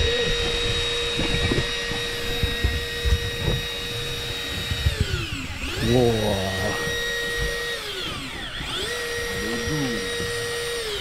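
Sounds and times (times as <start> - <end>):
small motor whining: 0.0 - 11.0.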